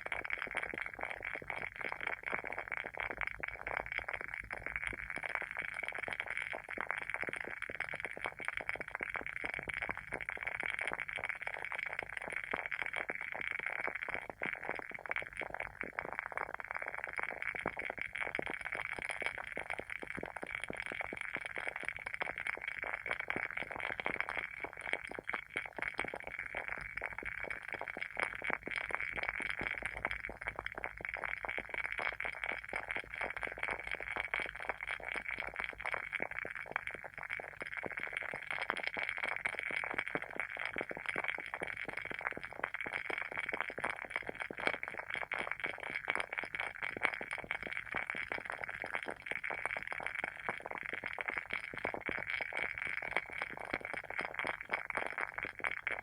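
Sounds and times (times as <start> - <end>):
candle wick crackling and popping: 0.0 - 56.0.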